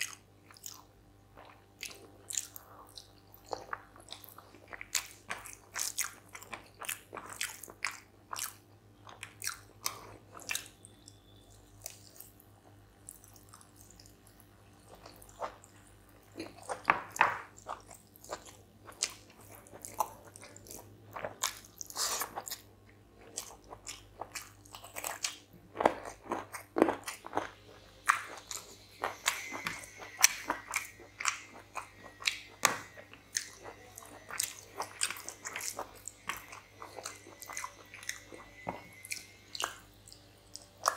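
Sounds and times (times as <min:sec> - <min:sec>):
chewing with mouth smacks: 0:00.0 - 0:40.9.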